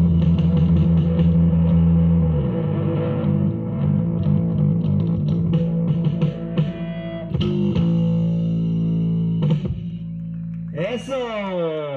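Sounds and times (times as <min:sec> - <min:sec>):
plucked guitar: 0:00.0 - 0:10.8
bass: 0:00.0 - 0:11.9.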